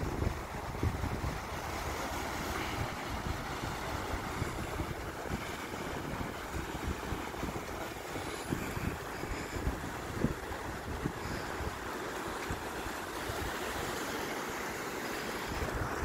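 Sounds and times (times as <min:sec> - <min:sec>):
wind buffeting microphone: 0:00.0 - 0:14.0, 0:15.4 - 0:16.0
sea surf on rocky shore: 0:00.0 - 0:16.0.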